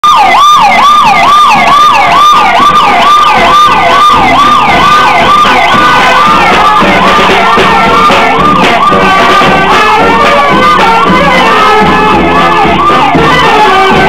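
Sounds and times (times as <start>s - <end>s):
vehicle siren yelping: 0.0s - 14.0s.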